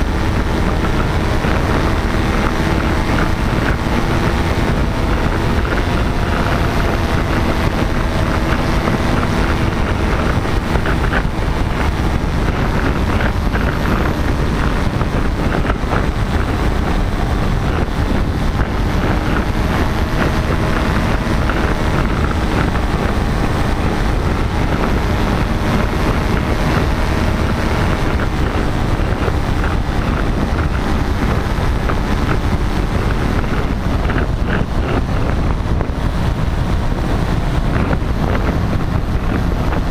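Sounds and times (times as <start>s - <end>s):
paramotor engine and propeller: 0.0s - 39.9s
wind noise on microphone: 0.0s - 39.9s.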